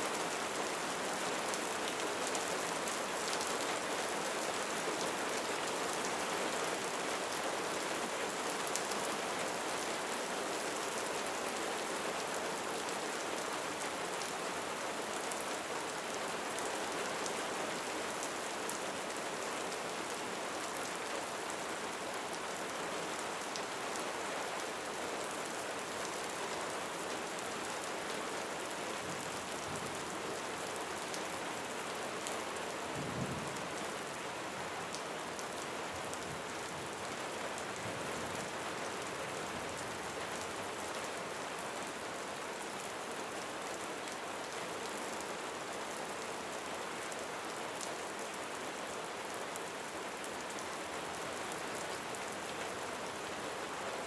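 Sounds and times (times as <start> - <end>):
heavy rain drumming on a roof: 0.0 - 54.0.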